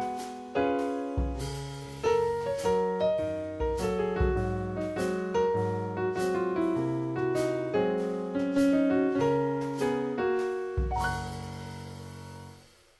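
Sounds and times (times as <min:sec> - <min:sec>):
low piano bass notes: 0:00.0 - 0:12.6
piano melody: 0:00.0 - 0:12.6.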